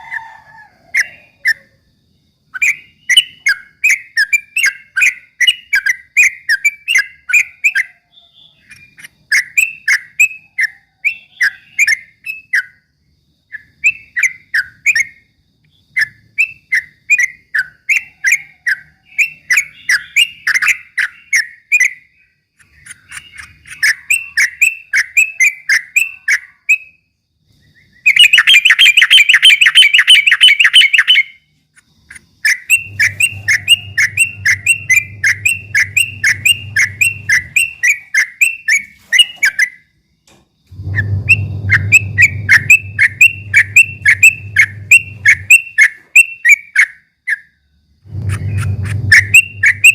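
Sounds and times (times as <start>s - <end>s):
bird singing rapid chirps: 1.0s - 49.9s.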